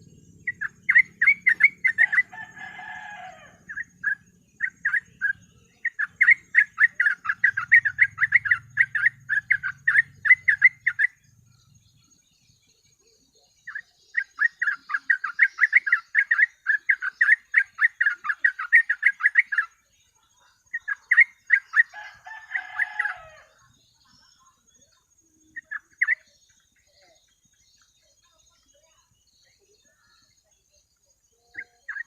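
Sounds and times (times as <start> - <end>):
bulbul singing chirpy notes: 0.0 - 32.0.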